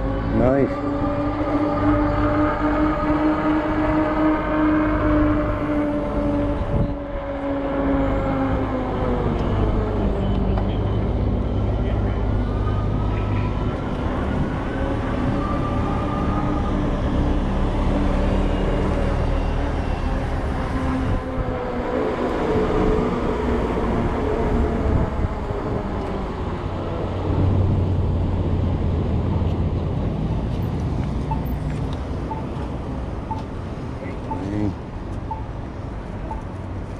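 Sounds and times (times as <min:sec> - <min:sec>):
steady traffic hum: 0:00.0 - 0:36.9
vehicle engines passing: 0:00.0 - 0:36.9.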